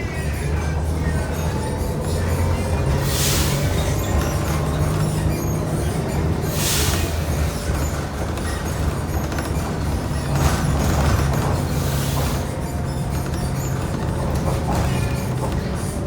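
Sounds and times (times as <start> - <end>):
bus engine humming: 0.0 - 16.0.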